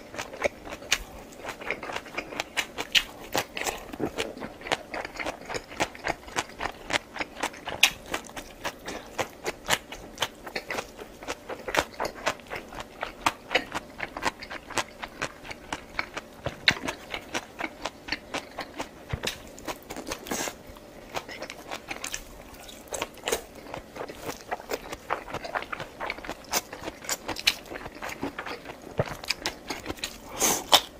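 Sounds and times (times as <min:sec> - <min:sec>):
person chewing and biting: 0:00.0 - 0:30.9.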